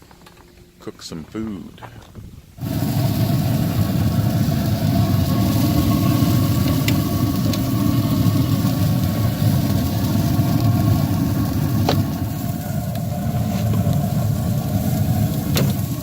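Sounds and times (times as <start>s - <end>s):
engine idling: 2.6s - 16.0s.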